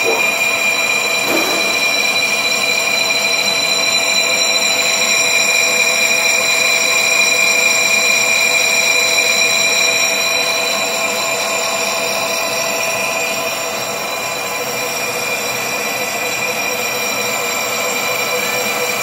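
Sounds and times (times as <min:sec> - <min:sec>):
high-pitched metallic ringing whine: 0:00.0 - 0:19.0.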